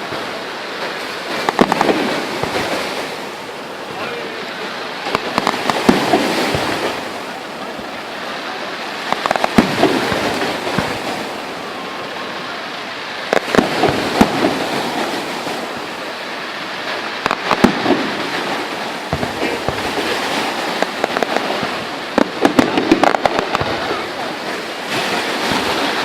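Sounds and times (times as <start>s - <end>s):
fireworks bangs and crackles: 0.0s - 26.0s
steady rushing noise: 0.0s - 26.0s.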